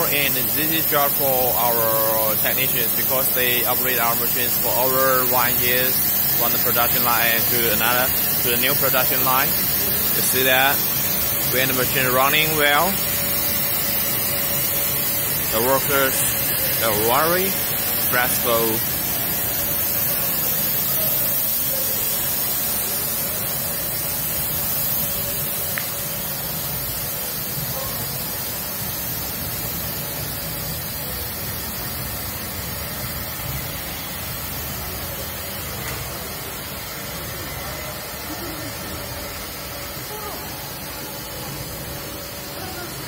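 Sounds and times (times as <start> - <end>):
hiss: 0.0 - 43.0
machines humming: 0.0 - 43.0.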